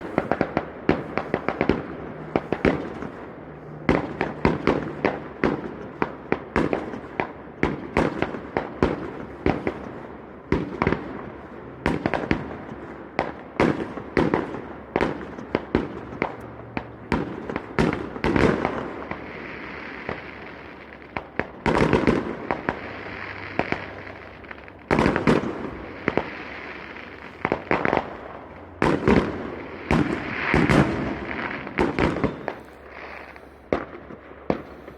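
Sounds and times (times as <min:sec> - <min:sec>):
fireworks bangs with echo: 0:00.0 - 0:34.9
fireworks crackle: 0:00.0 - 0:34.9.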